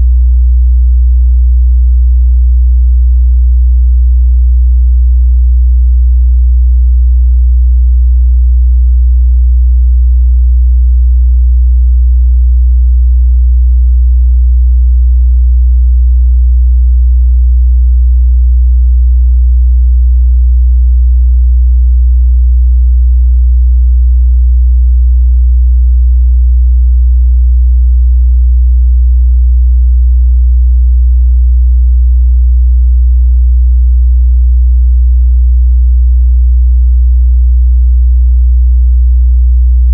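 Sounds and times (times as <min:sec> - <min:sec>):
low sine-wave test tone: 0:00.0 - 0:37.4.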